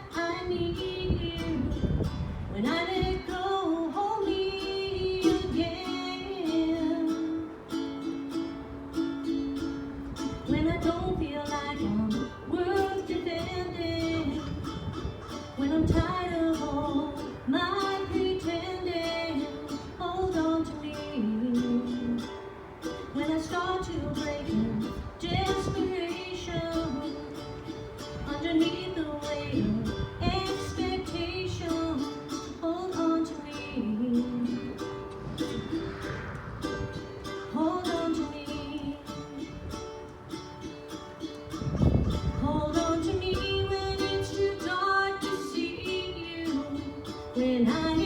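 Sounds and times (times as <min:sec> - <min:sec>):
strummed string instrument: 0:00.0 - 0:48.0.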